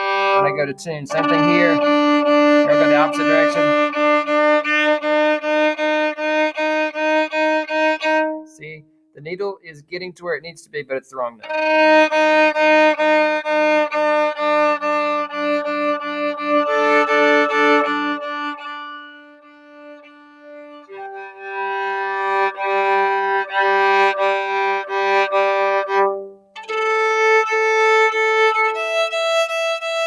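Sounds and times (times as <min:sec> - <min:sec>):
violin open strings bowed: 0:00.0 - 0:08.9, 0:11.4 - 0:30.0.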